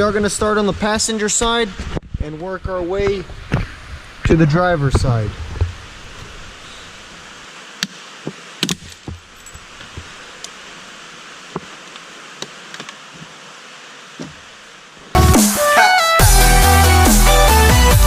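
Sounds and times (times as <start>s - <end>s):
steady background hiss: 0.0s - 17.7s.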